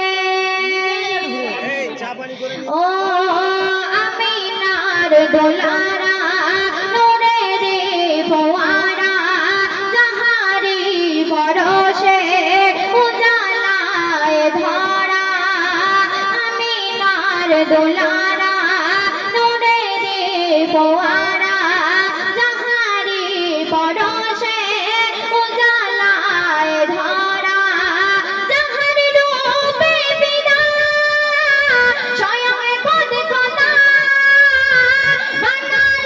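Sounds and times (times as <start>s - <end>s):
girl singing into a microphone: 0.0s - 1.4s, 2.5s - 36.0s.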